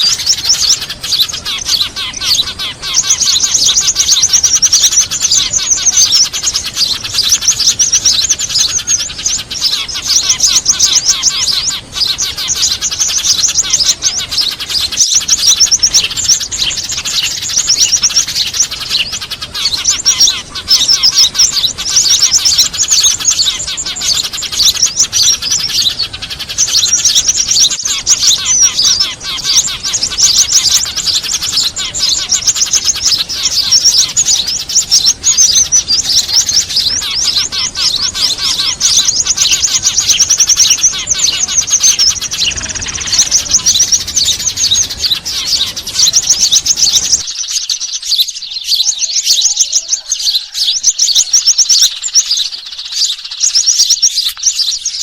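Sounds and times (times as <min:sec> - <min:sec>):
small birds chirping rapidly: 0:00.0 - 0:55.0.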